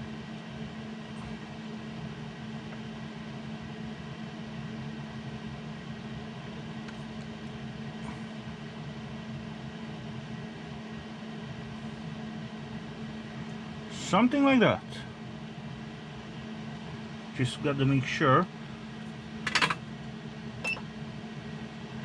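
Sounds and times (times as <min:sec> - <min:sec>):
mechanical hum with hiss: 0:00.0 - 0:22.0.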